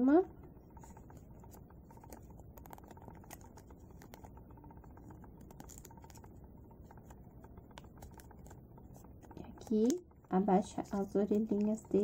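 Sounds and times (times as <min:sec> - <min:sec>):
paper crackling and clicking: 0:00.8 - 0:12.0.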